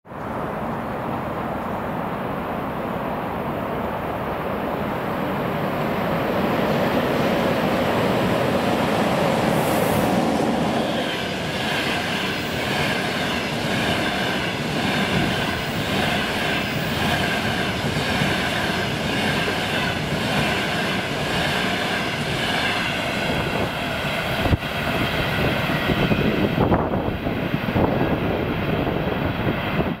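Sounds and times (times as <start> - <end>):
train wheels rumbling on rails: 4.1 - 30.0.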